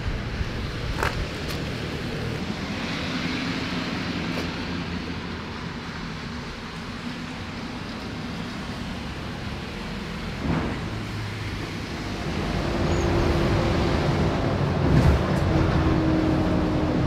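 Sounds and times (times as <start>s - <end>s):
bus engine: 0.0s - 17.0s
road rumble: 0.0s - 17.0s.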